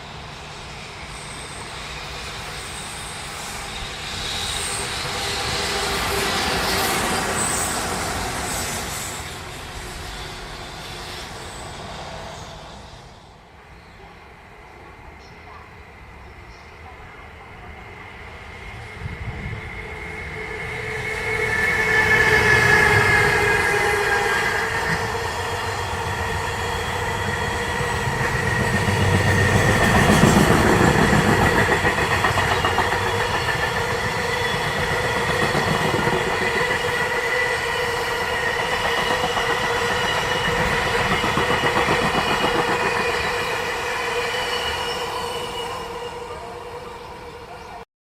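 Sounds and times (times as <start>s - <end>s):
train rumbling past: 0.0s - 47.8s
train wheel squeal: 0.0s - 47.8s.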